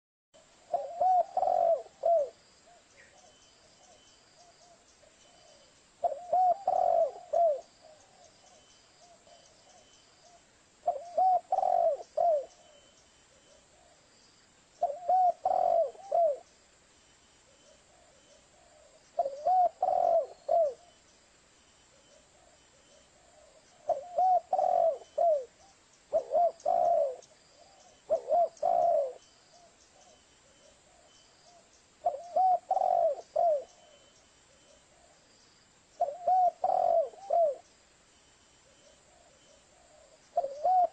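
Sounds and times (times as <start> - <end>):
dove cooing: 0.6 - 14.0, 14.8 - 16.5, 17.5 - 21.0, 21.9 - 35.2, 36.0 - 37.7, 38.6 - 40.9.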